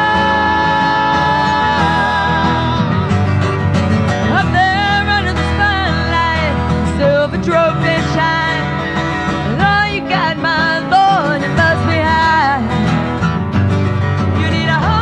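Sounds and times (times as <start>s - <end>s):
acoustic guitars: 0.0s - 15.0s
country band music: 0.0s - 15.0s
sliding lead melody line: 0.0s - 15.0s.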